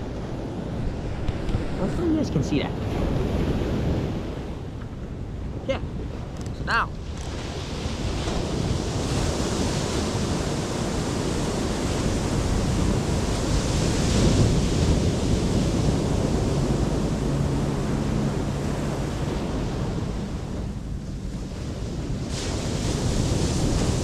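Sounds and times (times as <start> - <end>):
ocean surf washing on shore: 0.0 - 24.0
wind buffeting microphone: 0.0 - 24.0.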